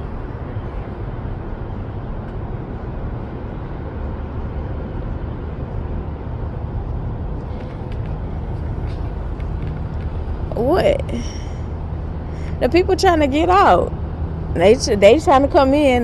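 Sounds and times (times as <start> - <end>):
low rumble of vehicles: 0.0 - 16.0.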